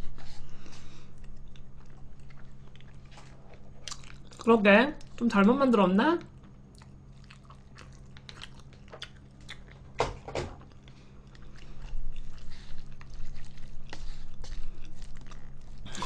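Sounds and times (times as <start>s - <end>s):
chewing: 0.1s - 5.2s, 6.2s - 10.0s, 10.6s - 16.0s.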